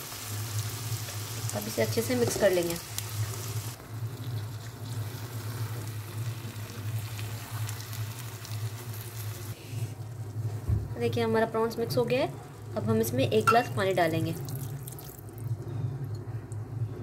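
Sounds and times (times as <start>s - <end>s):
prawns sizzling in oil: 0.0s - 15.4s.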